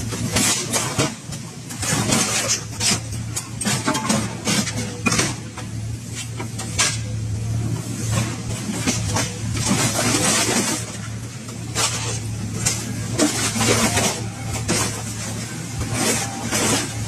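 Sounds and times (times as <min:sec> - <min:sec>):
metal shear clanking and crunching: 0:00.0 - 0:05.6, 0:08.1 - 0:17.0
diesel engine running: 0:00.0 - 0:17.0.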